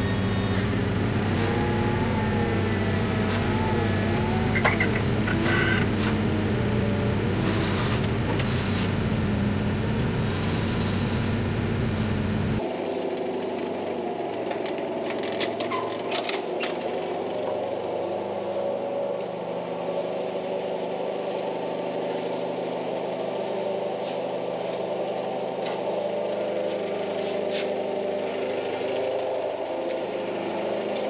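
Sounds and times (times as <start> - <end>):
forklift engine running: 0.0 - 15.4, 16.4 - 31.0.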